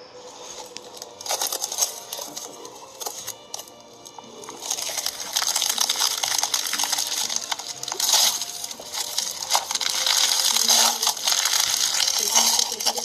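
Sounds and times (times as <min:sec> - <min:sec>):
slime squeezed by hand crackling: 0:00.4 - 0:13.0.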